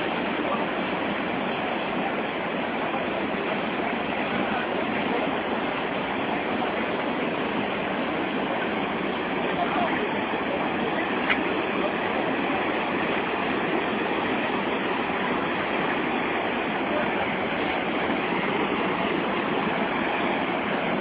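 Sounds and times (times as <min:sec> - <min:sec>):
whitewater roaring: 0:00.0 - 0:21.0.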